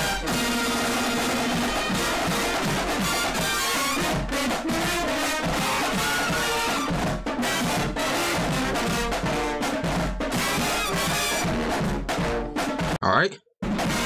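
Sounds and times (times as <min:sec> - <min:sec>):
drum strikes: 0:00.0 - 0:13.0, 0:13.6 - 0:14.0
marching band playing: 0:00.0 - 0:13.0, 0:13.6 - 0:14.0.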